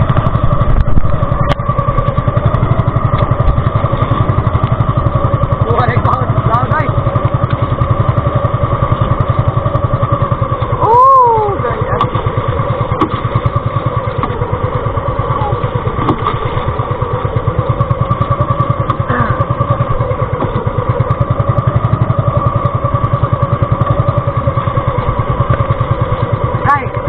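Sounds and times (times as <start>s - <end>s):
boat engine chugging: 0.0s - 27.0s
steady engine whine: 0.0s - 27.0s.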